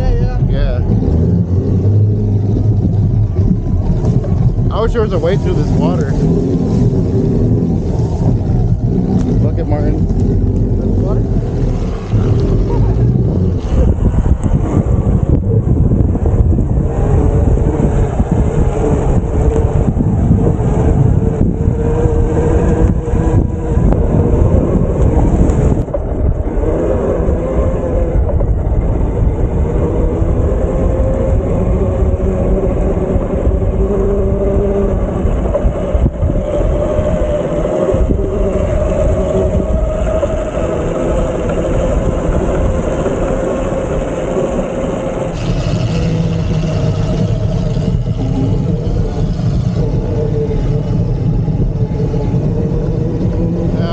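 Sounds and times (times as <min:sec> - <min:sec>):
wind buffeting microphone: 0:00.0 - 0:53.9
electric motor whine: 0:04.8 - 0:53.9.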